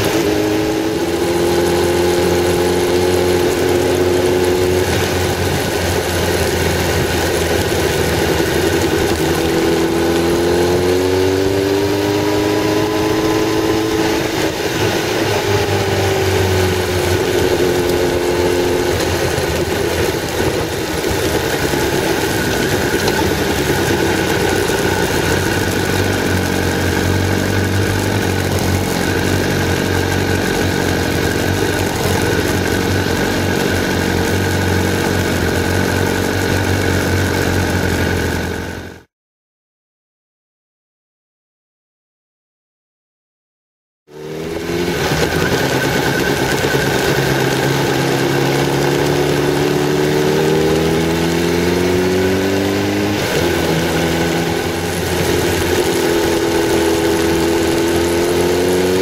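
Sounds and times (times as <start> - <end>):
road and wind noise: 0.0 - 39.1, 44.1 - 59.0
vehicle engine: 0.0 - 39.1, 44.1 - 59.0.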